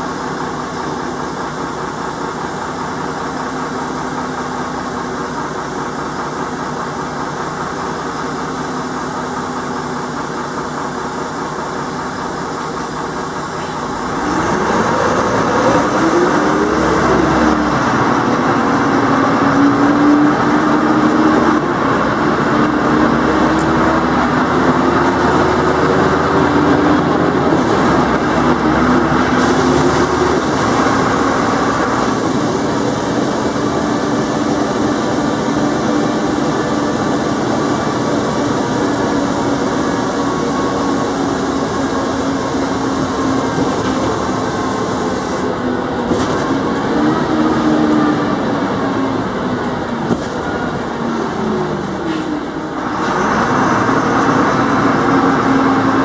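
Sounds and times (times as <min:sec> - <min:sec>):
bus engine whine: 0:00.0 - 0:56.0.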